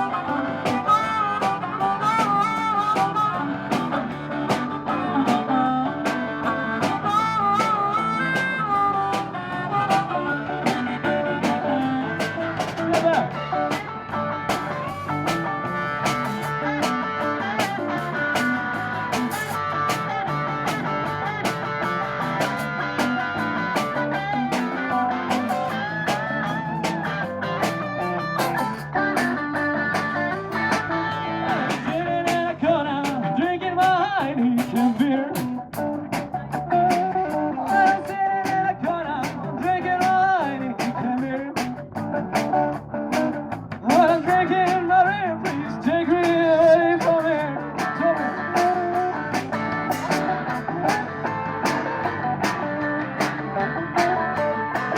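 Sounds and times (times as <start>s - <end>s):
blues guitar music: 0.0s - 54.9s.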